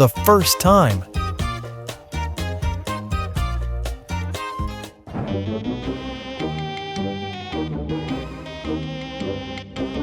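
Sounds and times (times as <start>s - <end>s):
upbeat instrumental music: 0.0s - 10.0s.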